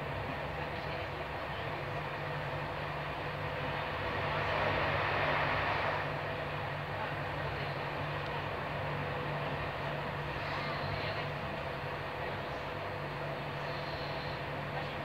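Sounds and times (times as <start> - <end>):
train low hum: 0.0 - 15.0
train rushing rolling noise: 0.0 - 15.0.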